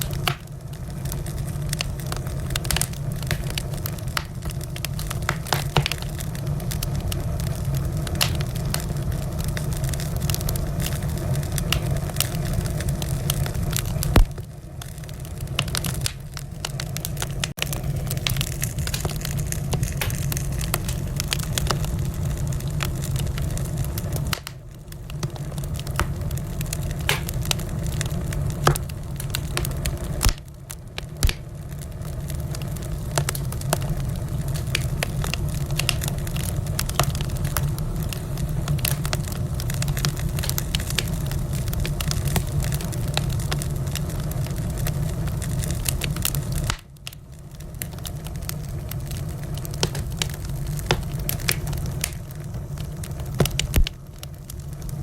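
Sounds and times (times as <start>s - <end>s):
sharp fire pops: 0.0s - 55.0s
wood fire crackling: 0.0s - 55.0s.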